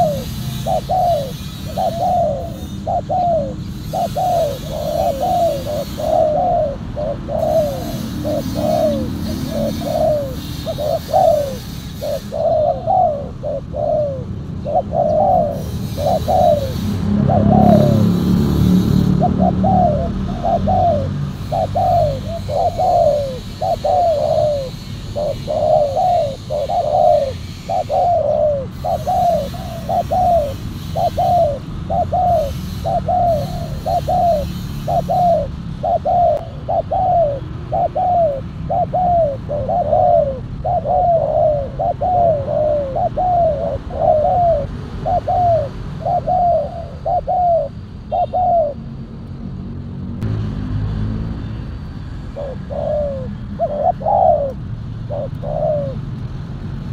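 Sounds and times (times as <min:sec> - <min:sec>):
dove cooing: 0:00.0 - 0:49.0, 0:52.2 - 0:56.9.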